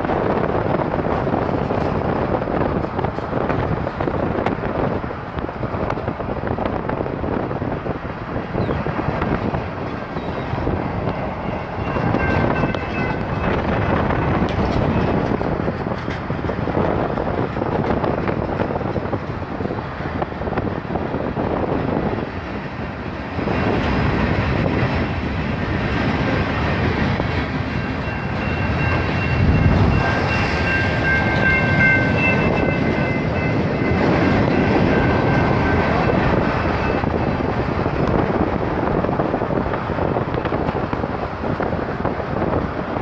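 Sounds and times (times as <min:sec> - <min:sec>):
freight train wheels rumbling: 0:00.0 - 0:43.0
wind on microphone: 0:00.0 - 0:43.0.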